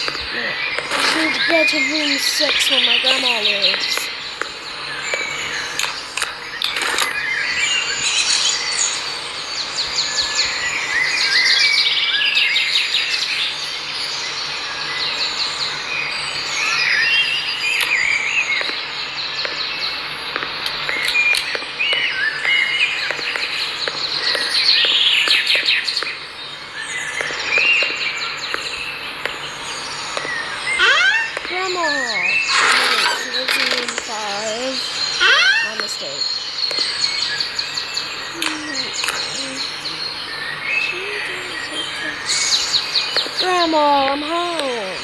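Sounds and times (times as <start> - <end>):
birds chirping and trilling: 0.0 - 20.1, 21.1 - 45.0.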